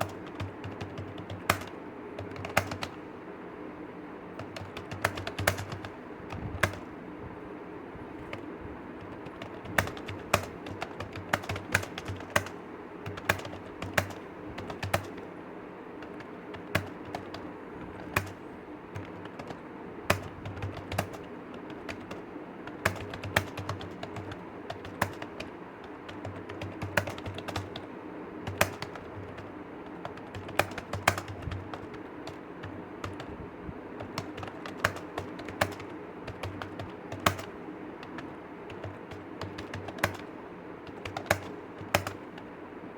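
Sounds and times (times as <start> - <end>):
typing on computer keyboard: 0.0 - 3.1, 4.4 - 7.0, 8.2 - 15.3, 16.0 - 33.4, 34.0 - 42.6
steady low hum: 0.0 - 42.9.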